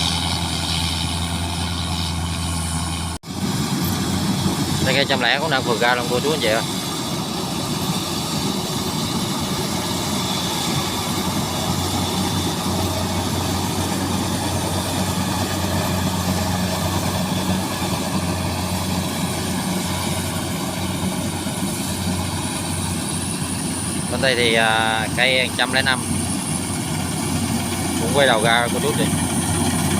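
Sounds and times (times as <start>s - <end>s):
combine harvester engine drone: 0.0s - 29.9s.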